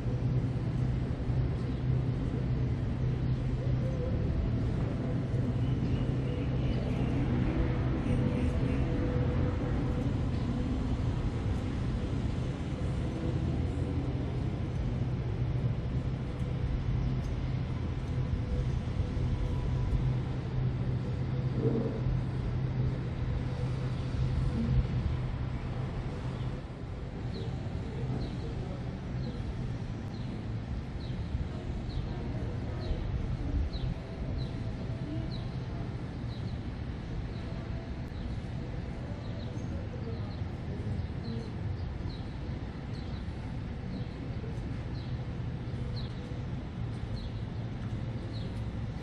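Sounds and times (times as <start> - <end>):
low engine hum: 0.0 - 49.0
urban noise: 0.0 - 49.0.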